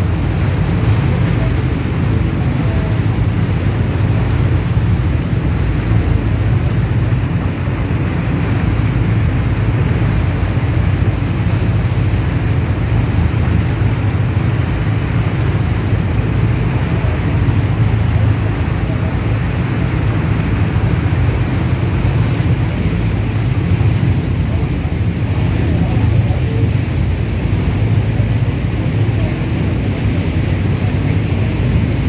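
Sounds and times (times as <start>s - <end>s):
boat engine running: 0.0s - 32.0s
propeller wake churning water: 0.0s - 32.0s.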